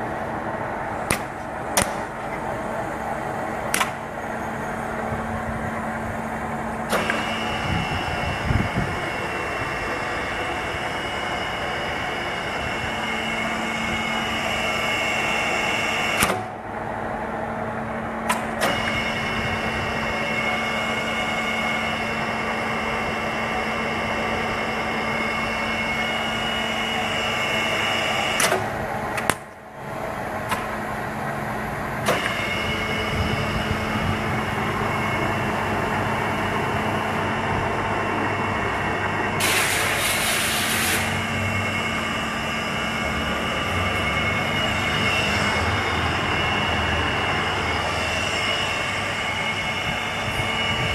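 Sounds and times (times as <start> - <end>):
high motor whine: 0.0 - 50.9
milling machine motor hum: 0.0 - 50.9.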